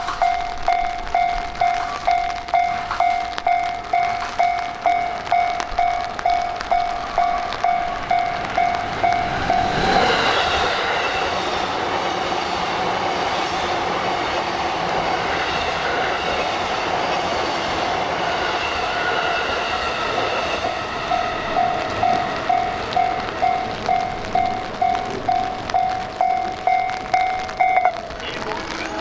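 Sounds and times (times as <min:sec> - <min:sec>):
gliding whining tones: 0:00.0 - 0:29.0
level-crossing warning bell: 0:00.0 - 0:29.0
train passing: 0:00.0 - 0:29.0.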